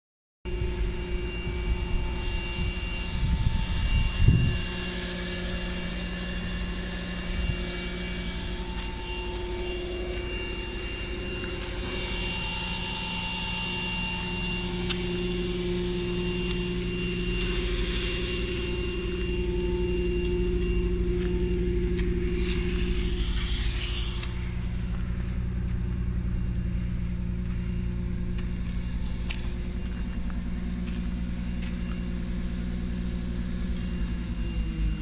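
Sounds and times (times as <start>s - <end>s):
low mechanical drone: 0.5s - 35.0s.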